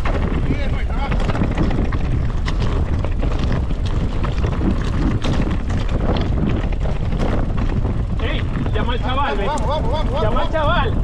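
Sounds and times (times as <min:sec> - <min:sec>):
bike tyres crunching on stones: 0:00.0 - 0:11.0
stones and bike knocking: 0:00.0 - 0:11.0
wind on microphone: 0:00.0 - 0:11.0.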